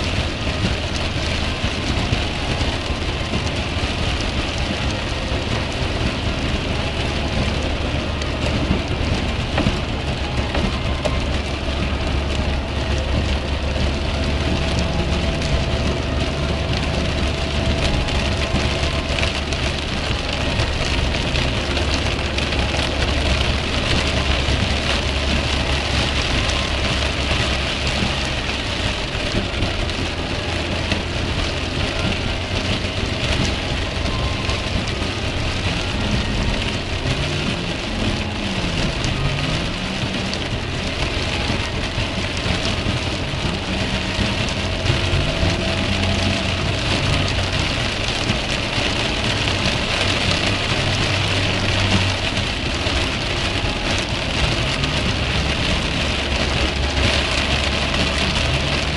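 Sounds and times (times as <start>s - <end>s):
engine and tyres droning: 0.0s - 58.9s
heavy rain on a car: 0.0s - 58.9s.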